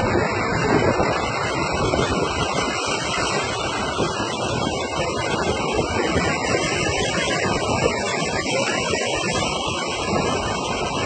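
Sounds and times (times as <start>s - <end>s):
heavy rain: 0.0s - 11.0s
road noise: 0.0s - 11.0s
tyres running through water: 0.0s - 11.0s.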